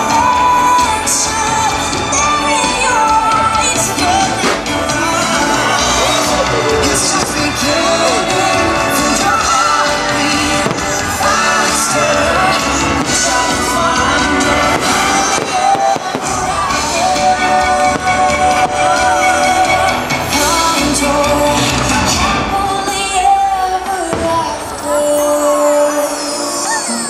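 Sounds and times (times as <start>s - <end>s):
loud soundtrack music: 0.0s - 27.0s
fireworks bursting with bangs: 3.0s - 26.3s.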